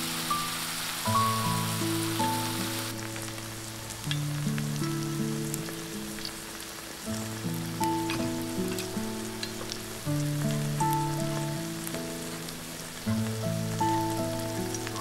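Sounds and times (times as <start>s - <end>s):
faint crackles: 0.0s - 15.0s
food simmering in broth: 0.0s - 15.0s
soft background music: 0.0s - 15.0s.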